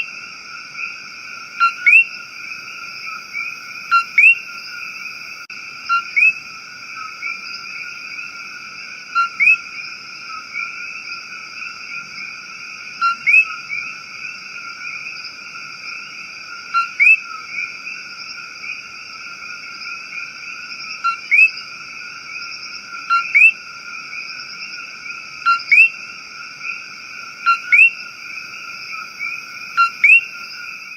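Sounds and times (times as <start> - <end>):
frogs and insects calling: 0.0 - 30.9.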